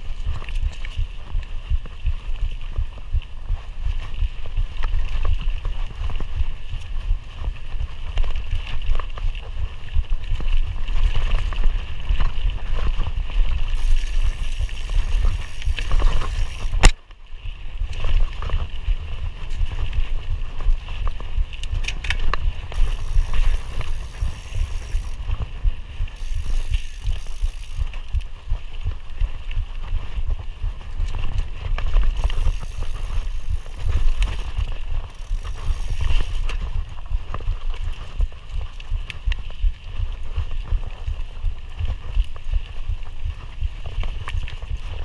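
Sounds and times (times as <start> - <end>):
bike rattling over bumps: 0.0 - 45.0
tyres and wind rumble: 0.0 - 45.0.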